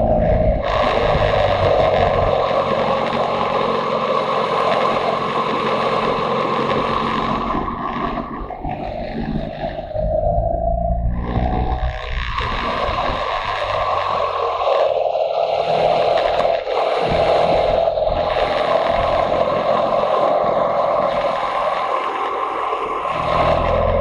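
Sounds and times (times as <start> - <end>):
motorcycle engine and wind rush: 0.0 - 24.0.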